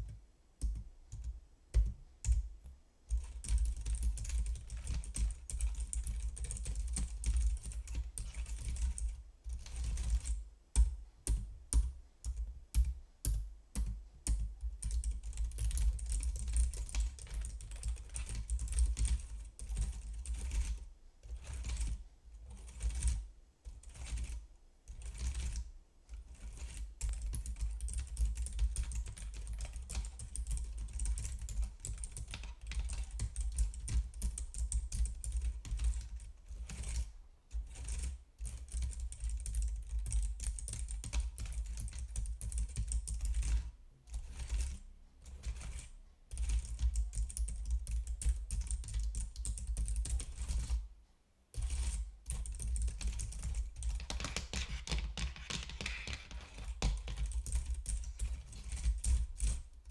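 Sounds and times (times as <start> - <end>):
computer keyboard typing: 3.1 - 20.8, 26.4 - 37.0, 37.6 - 44.8, 45.4 - 50.8, 51.6 - 59.6.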